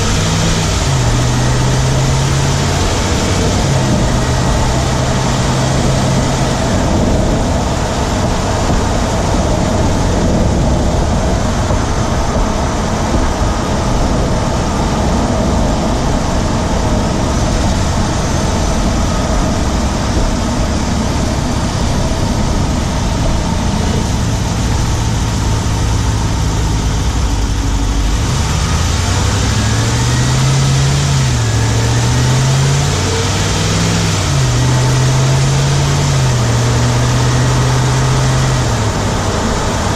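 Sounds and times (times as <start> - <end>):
engine running while driving: 0.0 - 39.9.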